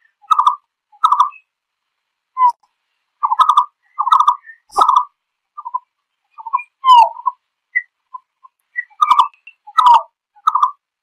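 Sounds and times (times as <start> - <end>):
bird flock call notes: 0.0 - 1.5, 3.2 - 10.8.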